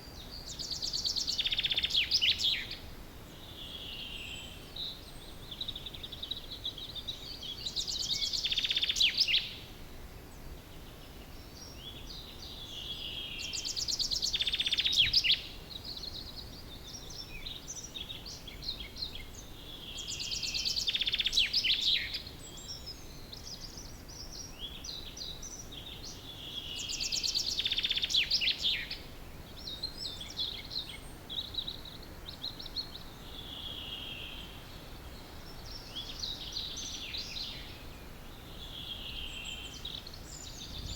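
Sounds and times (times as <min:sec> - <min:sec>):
chaffinch singing: 0:00.0 - 0:09.7, 0:11.0 - 0:40.9
birds chirping faintly: 0:00.0 - 0:40.9.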